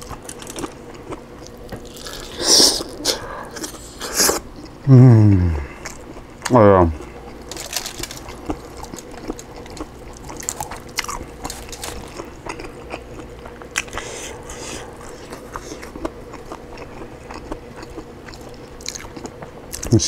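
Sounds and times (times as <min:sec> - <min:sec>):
crunchy chewing: 0:00.0 - 0:04.8, 0:05.7 - 0:20.0
faint steady hum: 0:00.0 - 0:20.0.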